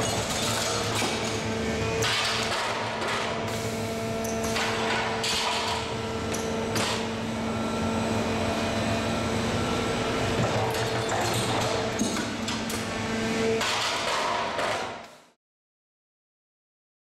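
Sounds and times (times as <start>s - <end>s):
steady machine hum: 0.0s - 14.2s.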